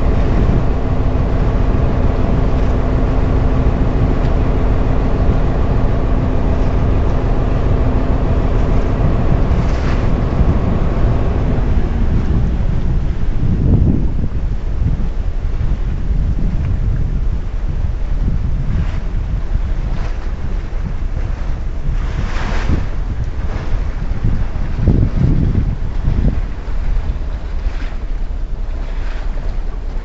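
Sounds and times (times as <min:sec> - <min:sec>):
boat motor running: 0:00.0 - 0:30.0
wind buffeting microphone: 0:00.0 - 0:30.0.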